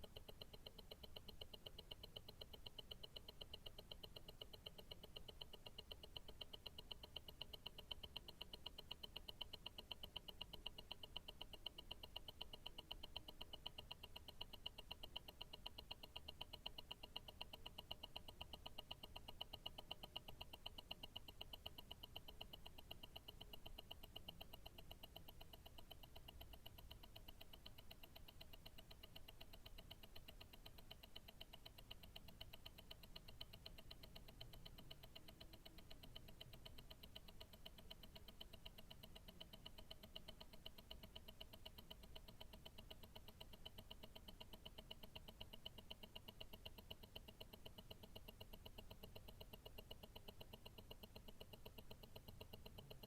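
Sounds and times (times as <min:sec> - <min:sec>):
watch ticking: 0:00.0 - 0:53.0.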